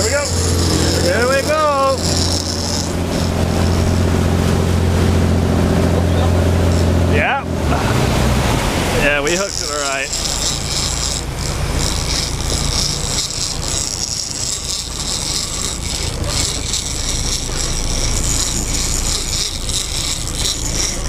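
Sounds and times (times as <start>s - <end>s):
outboard engine drone: 0.0s - 21.0s
water rushing along hull: 0.0s - 21.0s
wind: 0.0s - 21.0s.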